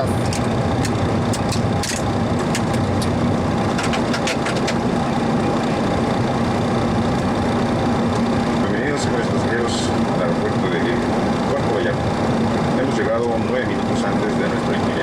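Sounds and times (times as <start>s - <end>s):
aircraft engines idling: 0.0s - 15.0s
fans and air conditioning hum: 0.0s - 15.0s.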